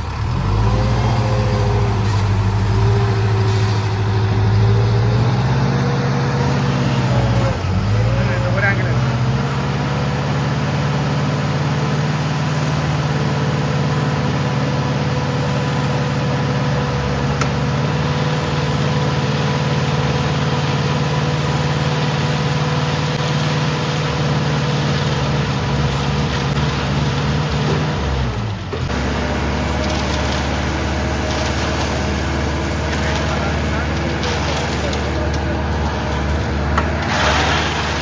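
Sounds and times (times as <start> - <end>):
diesel engine humming: 0.0 - 38.0.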